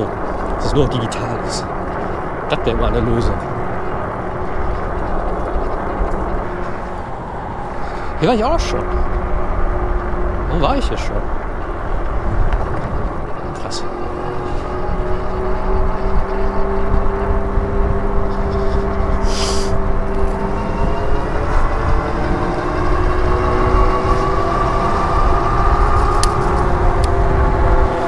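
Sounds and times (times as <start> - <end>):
electric motor and tyre whine: 0.0 - 28.0
wind rushing over microphone: 0.0 - 28.0.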